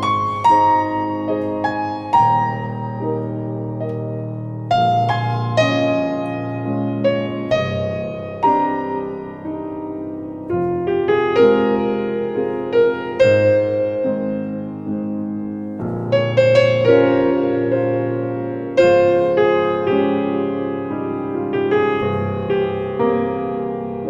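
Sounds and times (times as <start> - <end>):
piano chords and notes: 0.0 - 24.0.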